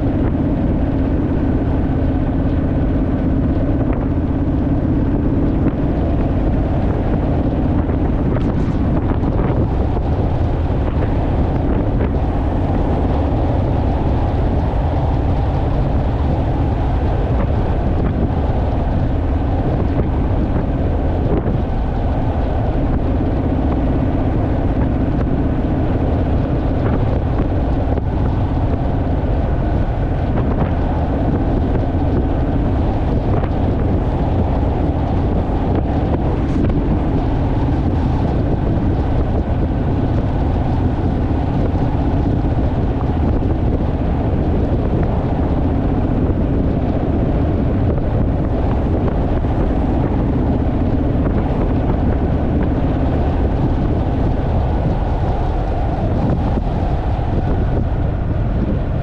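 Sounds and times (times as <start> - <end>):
motorcycle engine cruising: 0.0 - 59.0
wind noise on microphone: 0.0 - 59.0.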